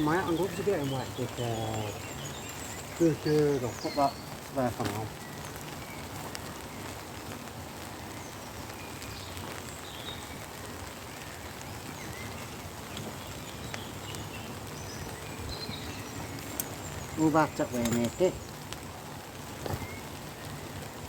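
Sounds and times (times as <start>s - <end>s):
faint bird chirps: 0.0s - 7.2s, 8.0s - 21.0s
steady rain falling: 0.0s - 21.0s.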